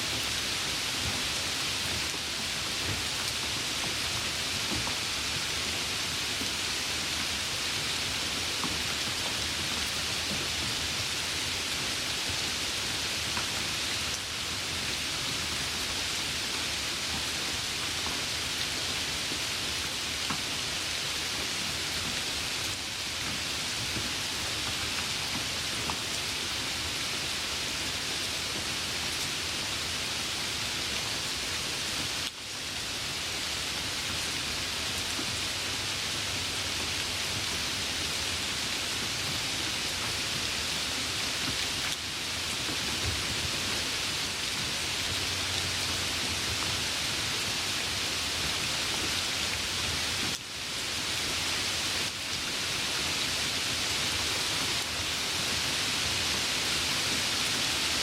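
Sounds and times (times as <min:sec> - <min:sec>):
light rain falling: 0:00.0 - 0:58.0.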